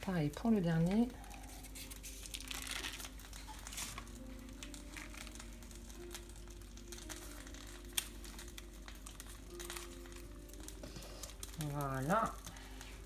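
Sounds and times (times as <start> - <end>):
baking paper crinkling: 0.0 - 13.0.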